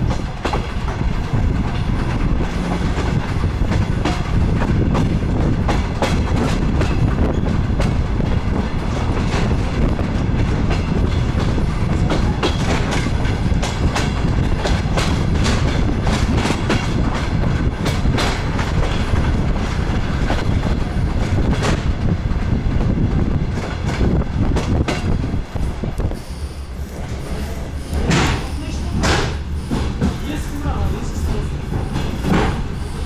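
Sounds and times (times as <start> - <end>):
wheels clicking over rail joints: 0.0 - 22.1, 26.9 - 33.0
railcar low rumble: 0.0 - 33.0.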